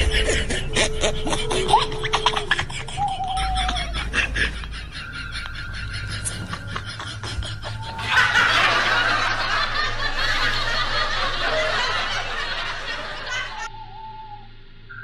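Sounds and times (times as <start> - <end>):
high-pitched cackling laugh: 0.0 - 13.7.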